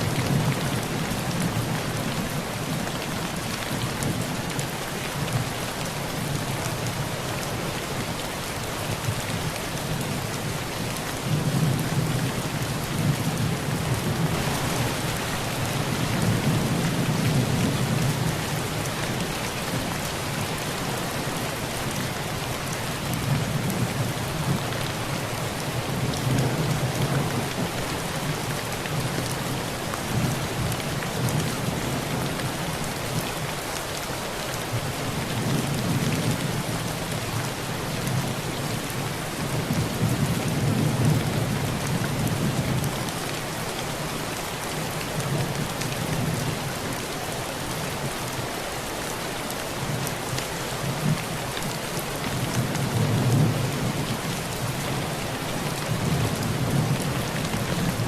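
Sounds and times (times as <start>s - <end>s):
heavy rain on a tin roof: 0.0s - 58.0s.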